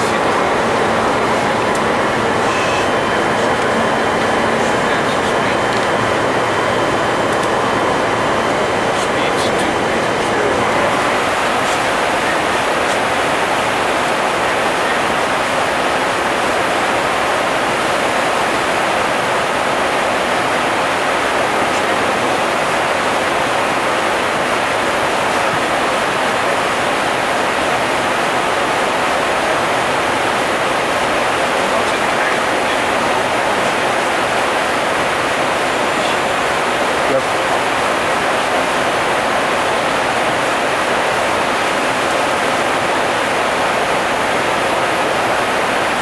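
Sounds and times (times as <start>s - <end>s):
rushing air noise in cockpit: 0.0s - 46.0s.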